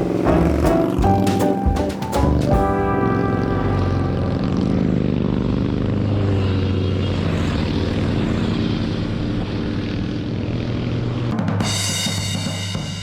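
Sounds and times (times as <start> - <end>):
motorcycle engines droning: 0.0 - 11.4.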